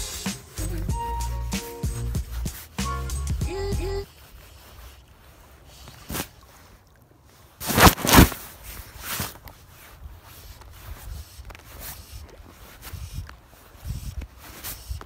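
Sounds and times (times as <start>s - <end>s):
jacket sleeve rubbing microphone: 0.0s - 6.4s, 7.6s - 15.0s.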